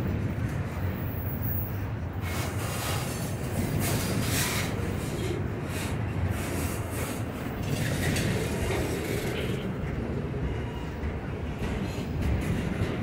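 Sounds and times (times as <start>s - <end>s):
freight train rumbling: 0.0s - 13.0s
wheel and rail noise: 0.0s - 13.0s.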